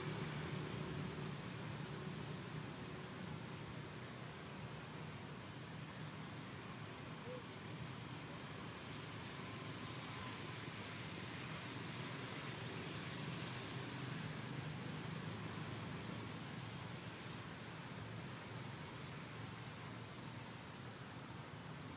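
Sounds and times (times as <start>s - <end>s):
pulsing insect chirp: 0.0s - 21.9s.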